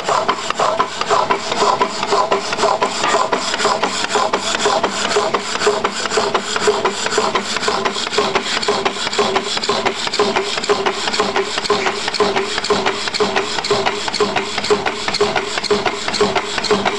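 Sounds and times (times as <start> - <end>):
power hacksaw cutting steel: 0.0 - 16.9.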